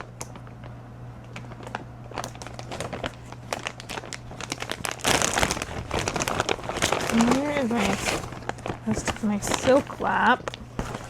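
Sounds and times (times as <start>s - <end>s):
bag crinkling and rustling: 1.4s - 11.0s.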